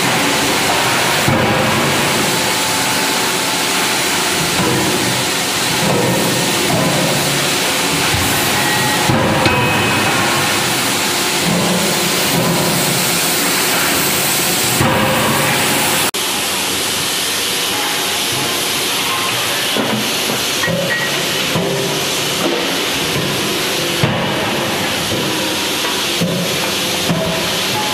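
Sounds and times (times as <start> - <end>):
machinery hiss: 0.0 - 27.9.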